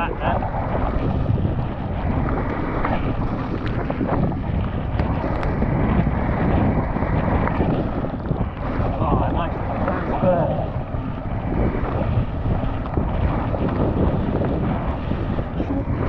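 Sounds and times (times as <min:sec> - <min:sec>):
bike tyres rumbling: 0:00.0 - 0:16.0
wind buffeting microphone: 0:00.0 - 0:16.0.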